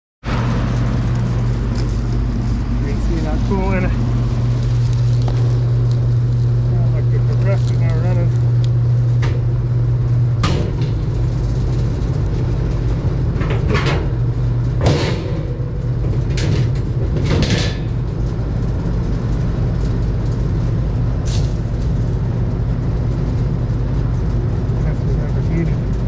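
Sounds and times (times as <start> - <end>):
air conditioner electrical hum: 0.2 - 26.0.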